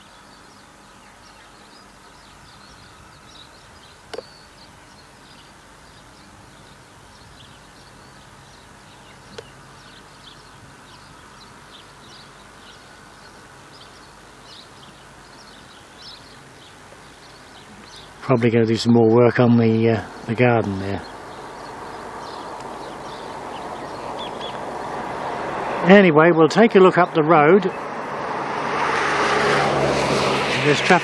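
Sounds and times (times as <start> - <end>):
small birds chirping: 0.0 - 28.2
outdoor background hiss: 0.0 - 31.0.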